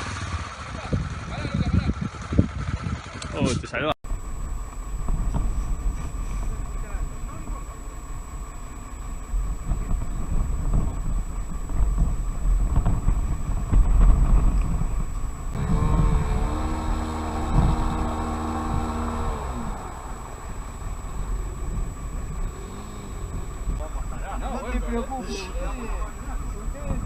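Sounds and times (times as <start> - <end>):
wind on microphone: 0.8 - 27.0
dirt bike engine revving: 4.0 - 27.0.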